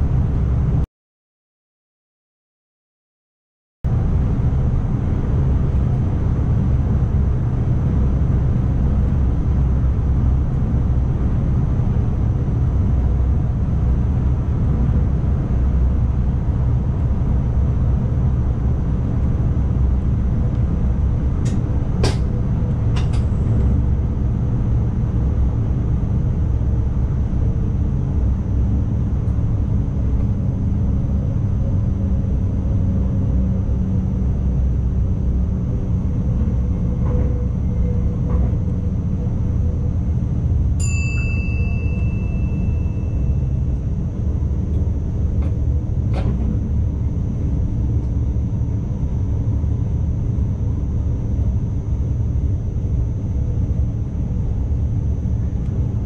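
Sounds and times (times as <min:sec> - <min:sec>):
train cab rumble: 0:03.9 - 0:56.0.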